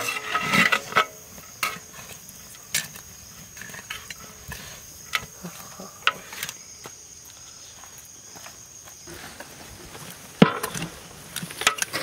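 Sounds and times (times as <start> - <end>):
high insect trill: 0.0 - 12.0.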